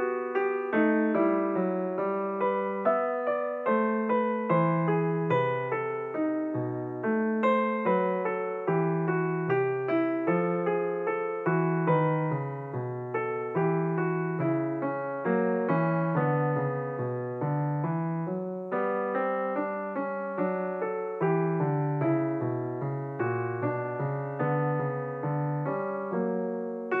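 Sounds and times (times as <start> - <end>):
piano-like keyboard notes: 0.0 - 27.0.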